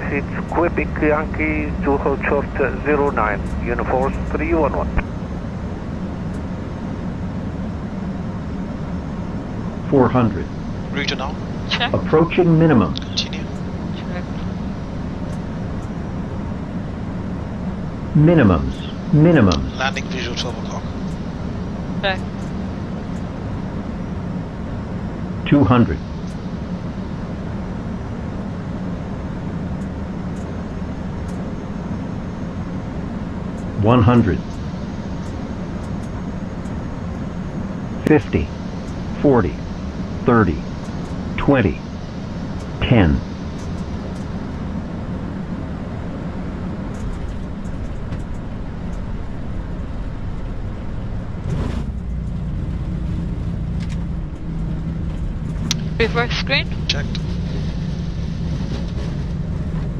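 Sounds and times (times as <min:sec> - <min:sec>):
low hum of jet engines: 0:00.0 - 0:59.9.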